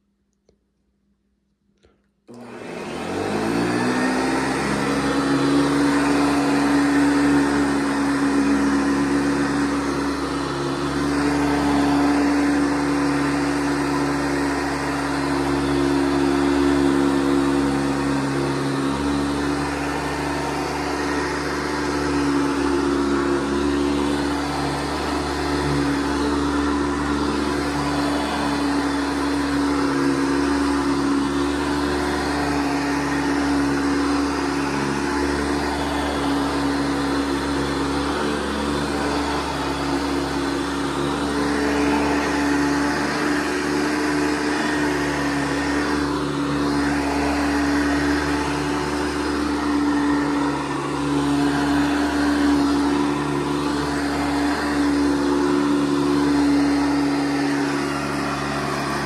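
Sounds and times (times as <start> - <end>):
upright vacuum cleaner running: 2.3 - 59.0.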